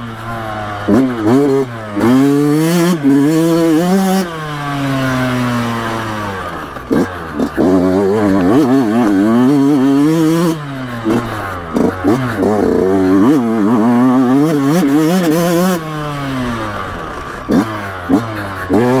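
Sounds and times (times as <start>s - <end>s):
two-stroke motorcycle engine revving: 0.0s - 19.0s.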